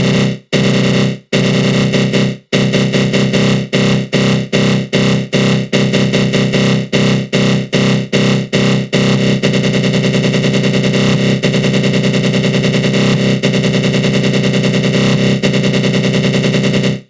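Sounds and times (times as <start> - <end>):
buzzing synth growl: 0.0 - 16.9.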